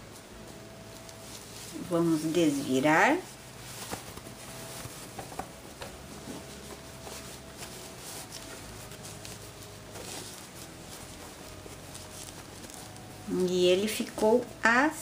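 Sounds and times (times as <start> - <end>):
fabric rustling and rubbing: 0.0 - 15.0.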